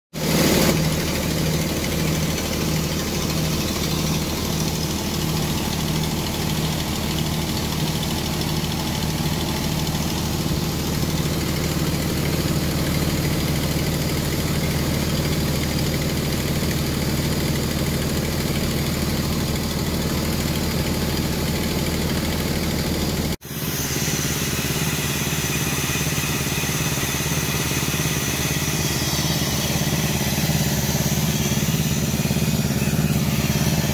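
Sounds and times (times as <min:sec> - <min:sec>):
crane engine running with regular beat: 0:00.2 - 0:33.9.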